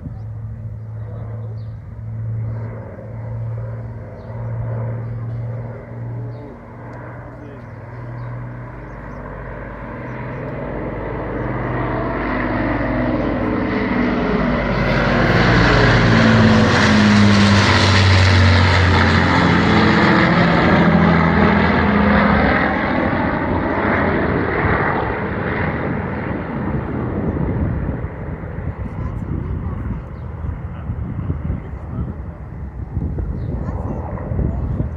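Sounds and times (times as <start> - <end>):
bomber piston engines droning: 0.0 - 34.9.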